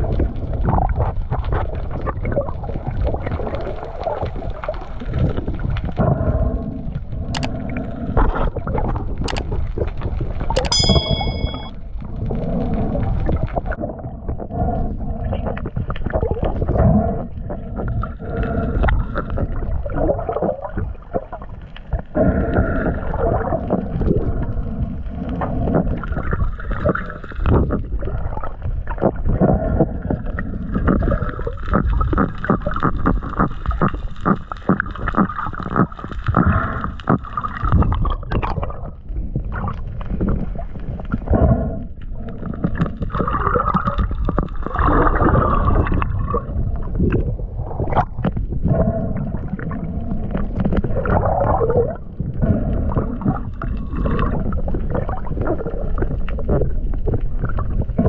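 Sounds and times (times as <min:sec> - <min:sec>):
low underwater rumble: 0:00.0 - 0:58.0
underwater gurgling and bubbling: 0:00.0 - 0:58.0.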